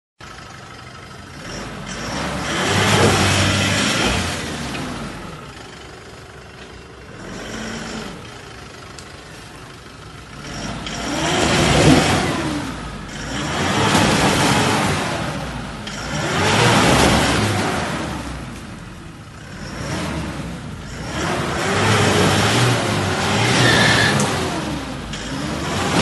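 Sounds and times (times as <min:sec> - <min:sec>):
pickup engine revving: 0:01.2 - 0:06.0, 0:07.0 - 0:08.8, 0:10.1 - 0:26.0.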